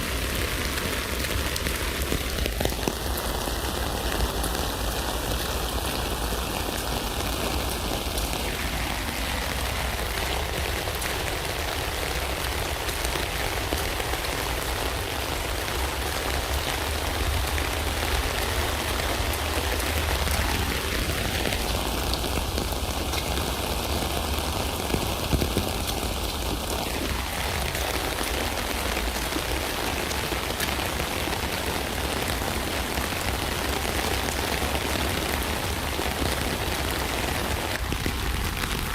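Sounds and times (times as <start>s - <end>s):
rain pattering on tent fabric: 0.0s - 38.9s.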